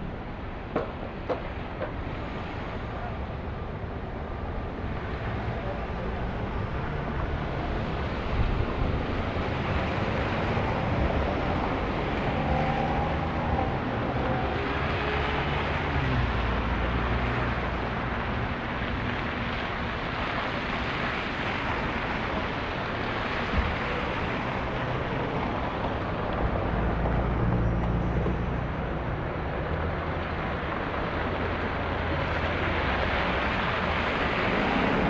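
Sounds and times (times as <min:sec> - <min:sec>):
traffic rumble: 0:00.0 - 0:35.0
engine hum: 0:03.0 - 0:35.0.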